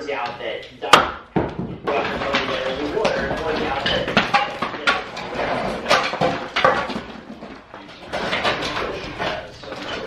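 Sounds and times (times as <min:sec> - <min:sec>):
knocks and clattering: 0:00.1 - 0:10.0.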